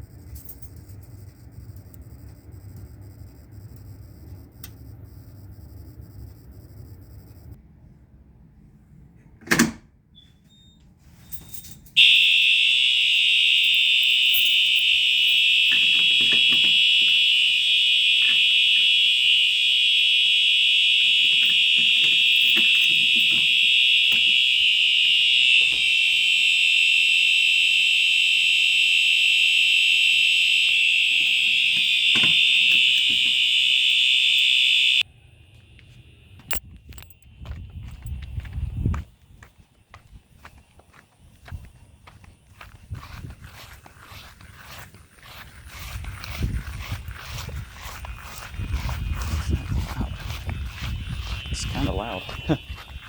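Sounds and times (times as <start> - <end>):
high-pitched fire alarm tone: 0.0 - 7.6, 11.3 - 39.0, 40.0 - 53.0.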